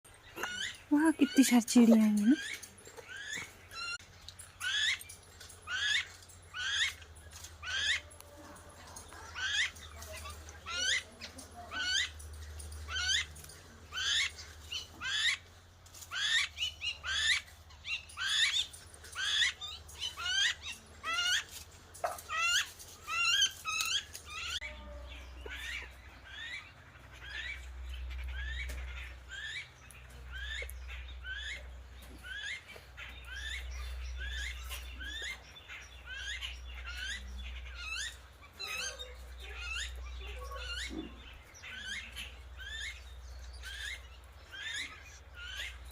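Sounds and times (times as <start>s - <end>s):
birds chirping: 0.0s - 45.9s.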